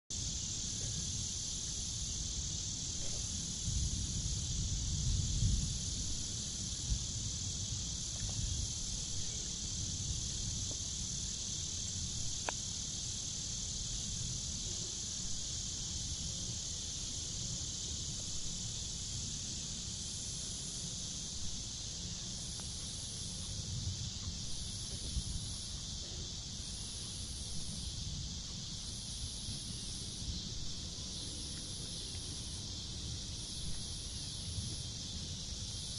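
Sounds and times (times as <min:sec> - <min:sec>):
high insect chorus: 0:00.1 - 0:35.9
higher insect trill: 0:00.1 - 0:35.9.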